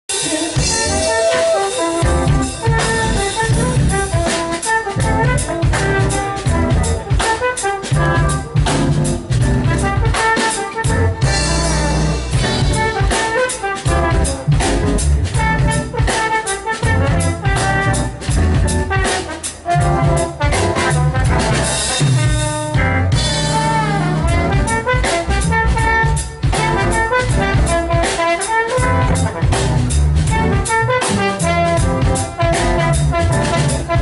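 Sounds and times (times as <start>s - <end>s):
jazz band playing: 0.1s - 34.0s
trombone melody: 0.1s - 34.0s.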